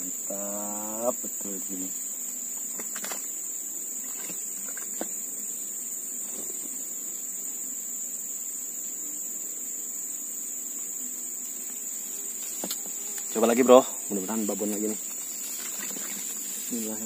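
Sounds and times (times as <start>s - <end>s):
shrill insect chorus: 0.0s - 17.0s.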